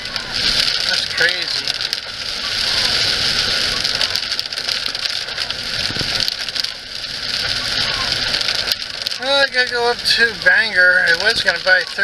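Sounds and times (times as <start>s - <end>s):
heavy rain pouring: 0.0s - 12.0s
raindrops ticking: 0.0s - 12.0s.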